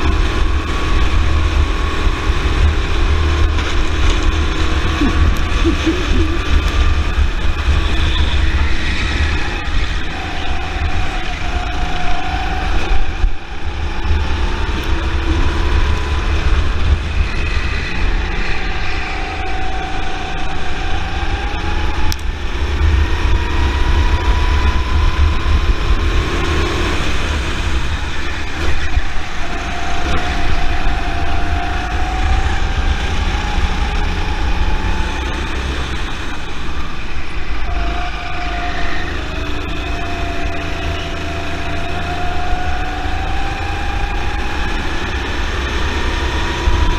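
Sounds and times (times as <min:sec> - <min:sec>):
go-kart engine revving: 0:00.0 - 0:46.9.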